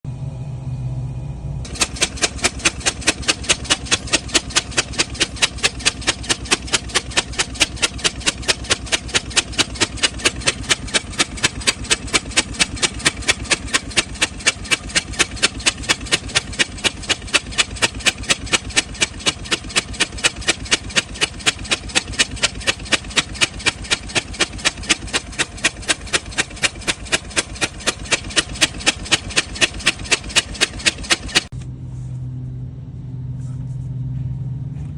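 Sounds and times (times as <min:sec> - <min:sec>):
engine rumbling: 0:00.1 - 0:34.9
engine tapping: 0:01.7 - 0:31.6.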